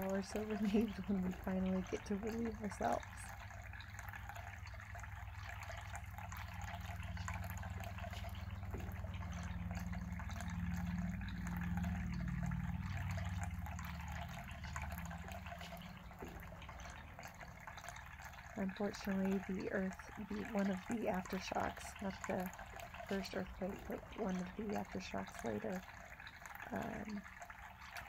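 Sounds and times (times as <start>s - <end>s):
fountain water trickling: 0.0s - 28.0s
low steady hum: 0.0s - 28.0s.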